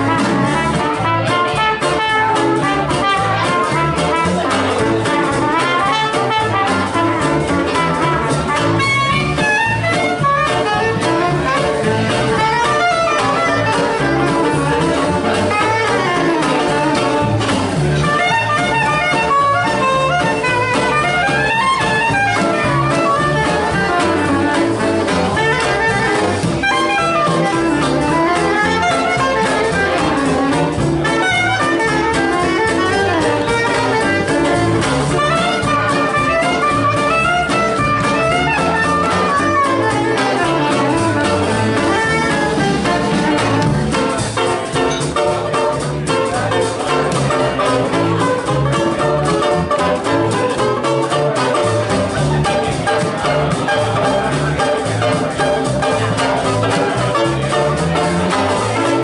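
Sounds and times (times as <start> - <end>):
plucked upright bass: 0.0 - 59.0
saxophone melody: 0.0 - 59.0
strummed banjo: 0.0 - 59.0.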